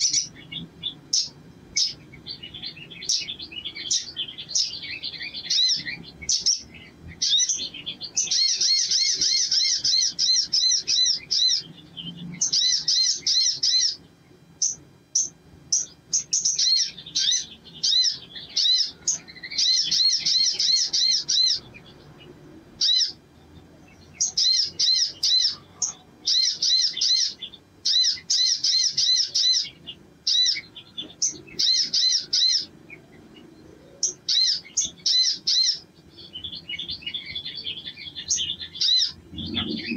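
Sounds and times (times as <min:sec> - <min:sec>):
bird high chirping song: 0:00.0 - 0:39.9.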